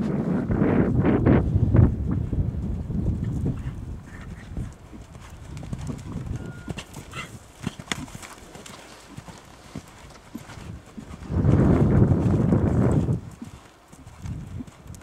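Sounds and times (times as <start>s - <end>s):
horse hooves cantering on sand: 1.8s - 15.0s.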